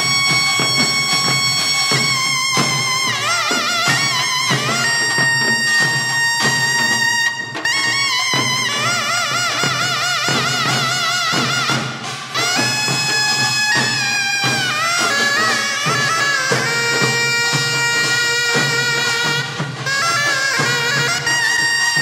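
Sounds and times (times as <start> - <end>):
double-reed shawm melody: 0.0 - 22.0.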